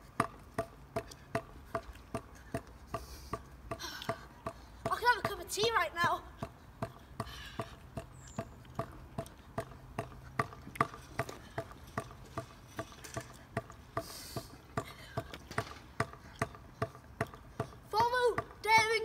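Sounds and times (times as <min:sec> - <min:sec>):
stunt scooter clicking on tarmac: 0:00.0 - 0:19.0.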